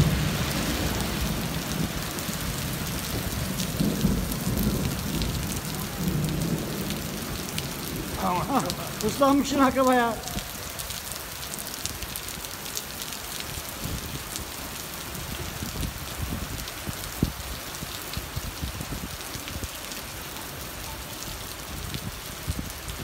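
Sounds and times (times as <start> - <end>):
heavy rain on a flooded street: 0.0 - 23.0.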